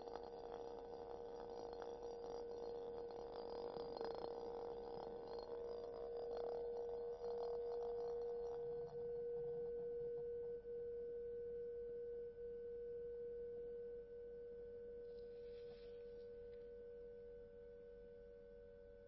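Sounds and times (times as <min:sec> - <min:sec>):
pure ringing tone: 0:00.0 - 0:19.0.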